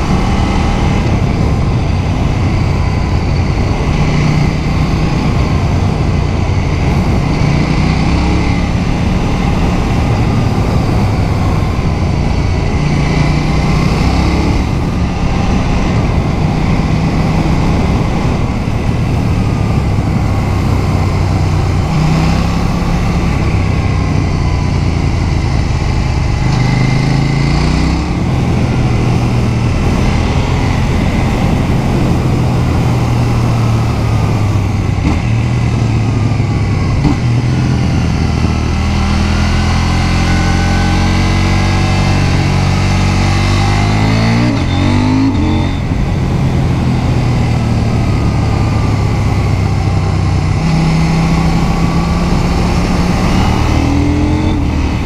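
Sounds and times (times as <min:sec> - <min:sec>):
motorcycle engine revving: 0:00.0 - 0:55.0
wind rushing: 0:00.0 - 0:55.0.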